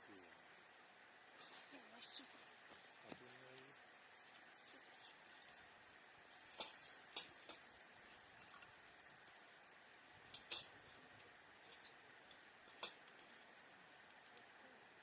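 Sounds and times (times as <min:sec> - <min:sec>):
faint hiss: 0:00.0 - 0:15.0
campfire crackling: 0:00.1 - 0:15.0.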